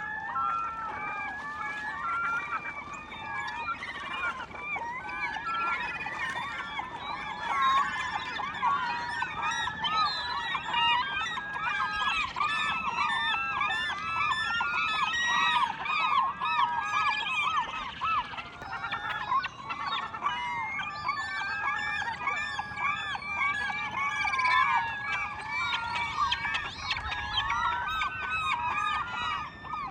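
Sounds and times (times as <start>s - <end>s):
flock of birds calling: 0.0s - 29.9s.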